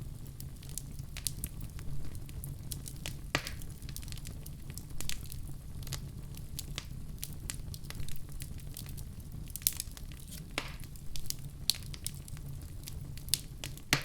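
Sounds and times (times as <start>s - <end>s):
fire crackles and pops: 0.0s - 14.0s
fireplace fire rumbling: 0.0s - 14.0s.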